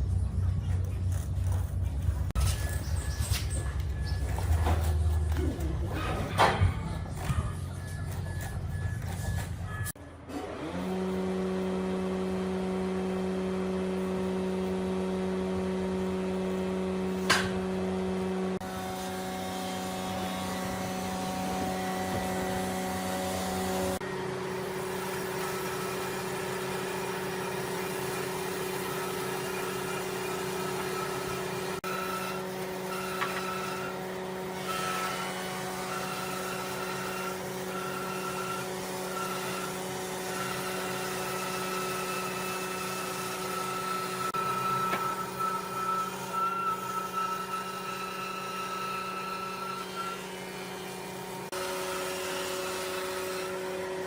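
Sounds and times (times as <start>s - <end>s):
power tool motor running: 6.8s - 54.0s.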